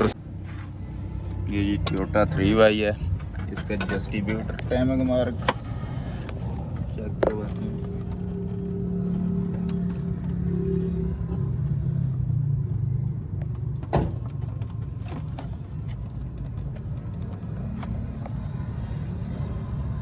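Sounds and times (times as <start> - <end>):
petrol engine humming: 0.0 - 20.0.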